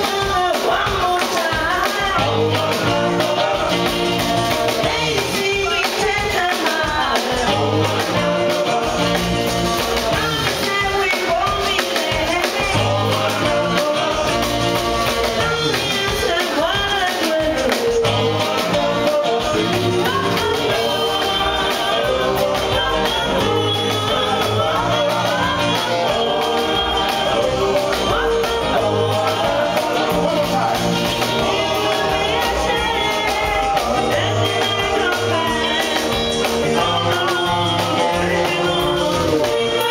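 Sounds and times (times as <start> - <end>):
drums: 0.0 - 39.9
upright double bass: 0.0 - 39.9
woman and man singing: 0.0 - 39.9.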